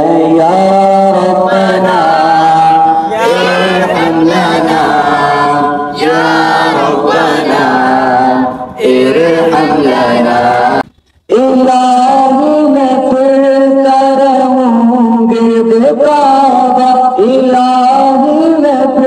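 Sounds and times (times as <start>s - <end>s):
person singing devotional chant: 0.0s - 19.0s.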